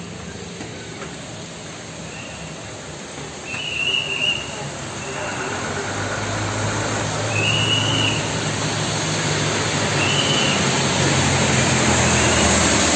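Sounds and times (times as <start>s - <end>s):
heavy rain pouring: 0.0s - 12.9s.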